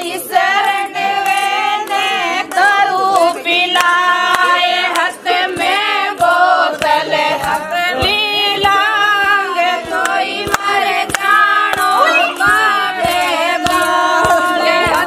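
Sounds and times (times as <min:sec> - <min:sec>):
hand claps: 0:00.0 - 0:15.0
women singing folk song: 0:00.0 - 0:15.0.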